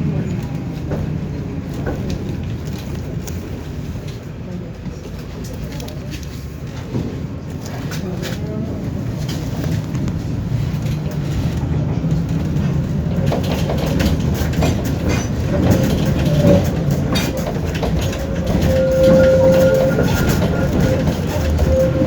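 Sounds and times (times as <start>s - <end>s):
tram rumble: 0.0s - 22.0s
wheels clacking over rail joints: 0.0s - 22.0s.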